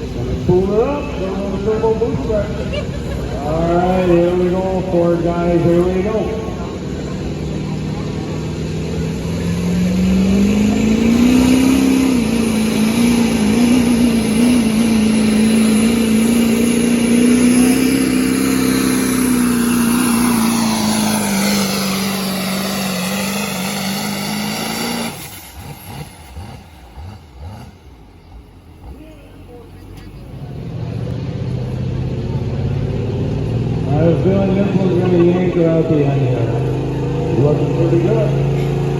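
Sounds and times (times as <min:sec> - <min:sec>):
diesel engine at full throttle: 0:00.0 - 0:38.9.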